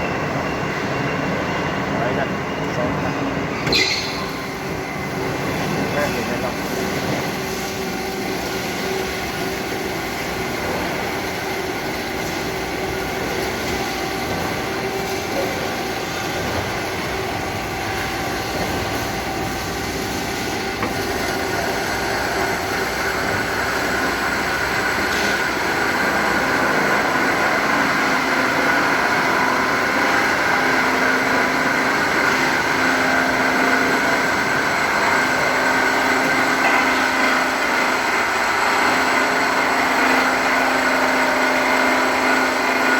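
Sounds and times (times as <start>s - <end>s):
pipe cutting machine running: 0.0s - 42.9s.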